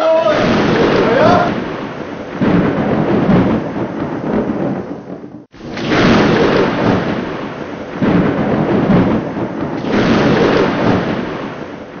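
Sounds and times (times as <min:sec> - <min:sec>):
rolling rumble of explosions: 0:00.0 - 0:12.0.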